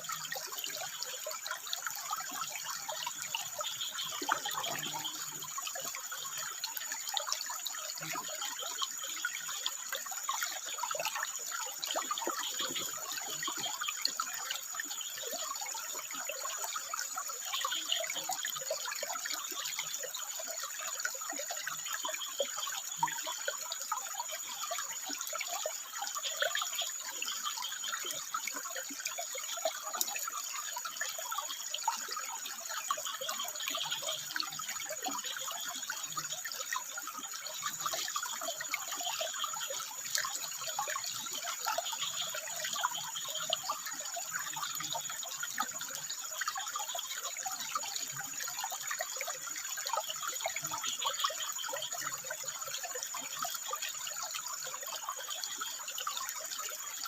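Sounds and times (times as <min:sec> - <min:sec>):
thin high-pitched steady tone: 0:00.0 - 0:57.0
water trickling over rocks: 0:00.0 - 0:57.0.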